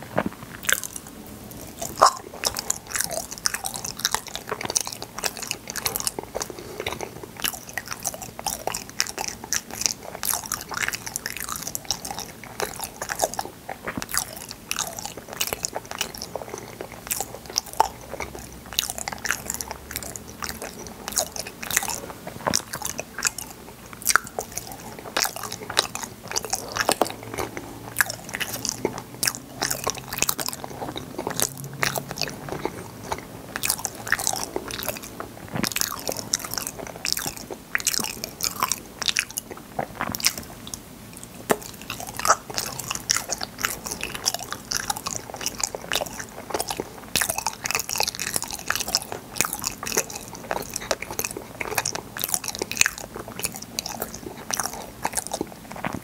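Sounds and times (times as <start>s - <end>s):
biting and chewing jelly sweets: 0.0s - 56.0s
sharp clicks and crunches: 9.6s - 56.0s.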